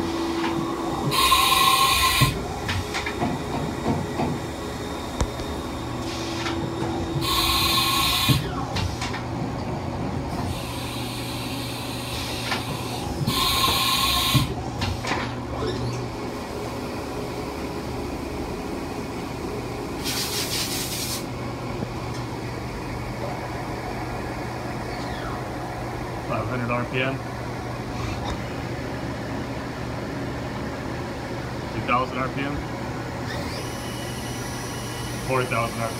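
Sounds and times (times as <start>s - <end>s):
machine low hum: 0.0s - 20.0s, 21.3s - 35.9s.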